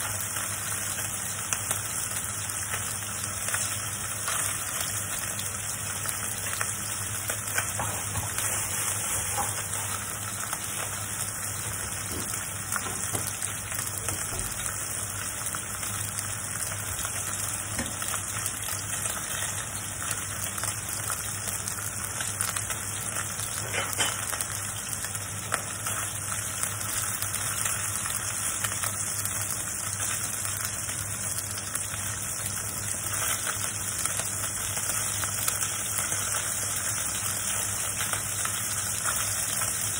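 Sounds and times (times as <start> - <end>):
meat sizzling in oil: 0.0 - 39.9.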